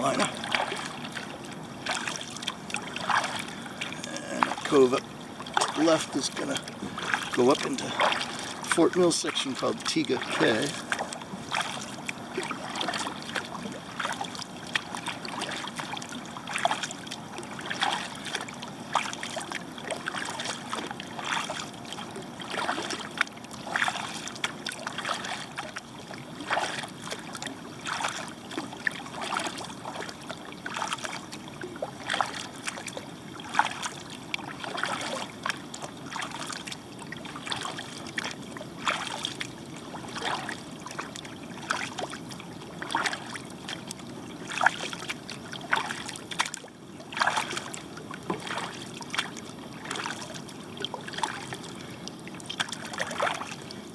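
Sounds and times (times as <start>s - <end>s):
paddle splashing in water: 0.0s - 53.9s.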